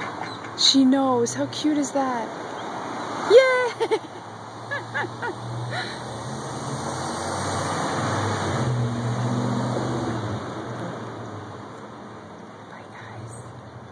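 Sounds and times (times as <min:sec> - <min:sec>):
vehicle passing: 0:00.0 - 0:13.9.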